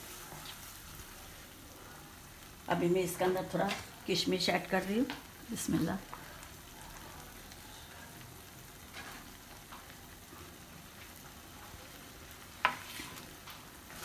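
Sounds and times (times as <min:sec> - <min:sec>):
faint sizzle in frying pan: 0:00.0 - 0:14.0.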